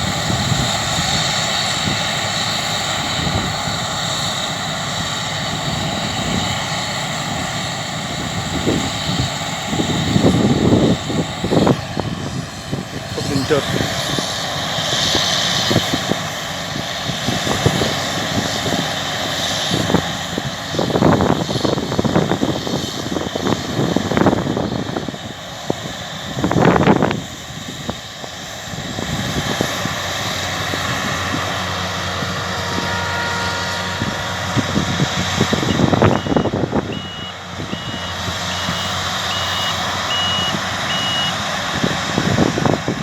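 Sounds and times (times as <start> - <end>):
combine harvester droning: 0.0 - 43.0.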